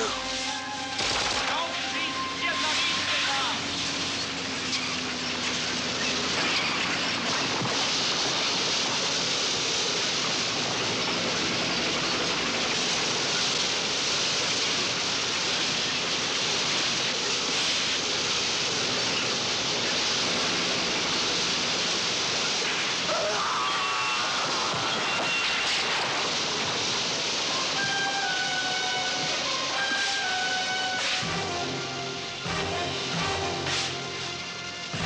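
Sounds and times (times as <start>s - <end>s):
avalanche rushing hiss: 0.0s - 35.0s.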